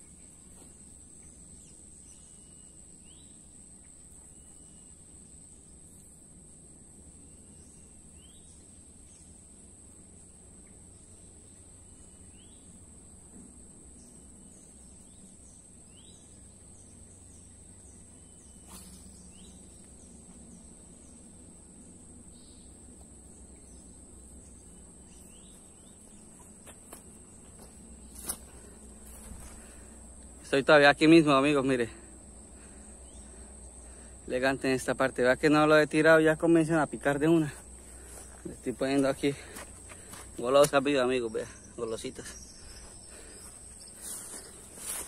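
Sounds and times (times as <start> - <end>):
faint outdoor hum: 0.0 - 45.0
insects buzzing: 0.0 - 45.0.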